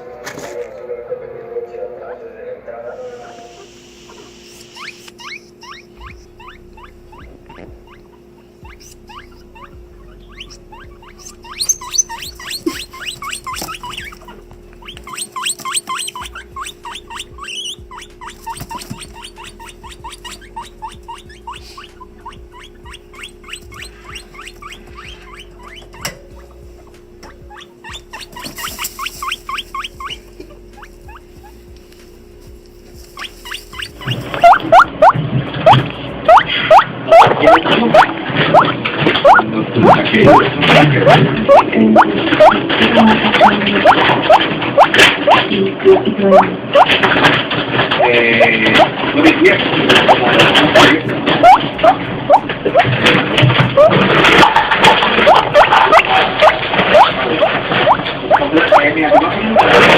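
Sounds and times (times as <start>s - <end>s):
guinea pig squealing: 3.3s - 59.9s.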